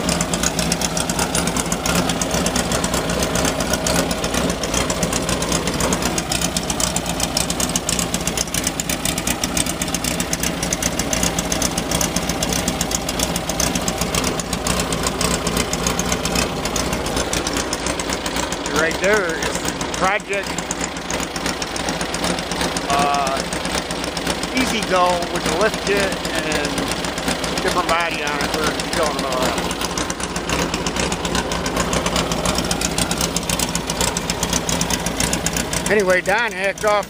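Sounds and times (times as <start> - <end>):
engine chugging steadily: 0.0 - 37.0.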